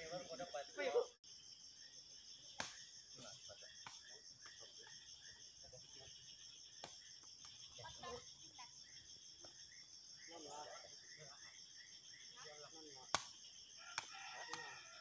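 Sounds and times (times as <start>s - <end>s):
insect chorus ringing: 0.0s - 15.0s.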